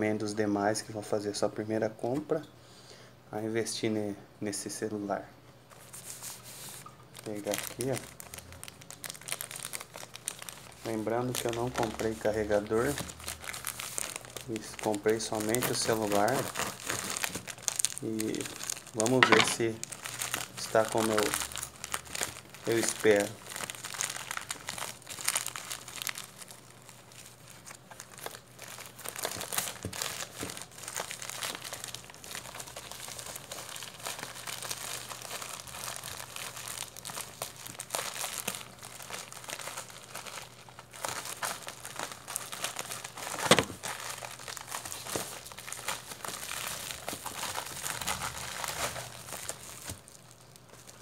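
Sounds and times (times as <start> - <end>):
plastic packaging crinkling: 5.7 - 51.0.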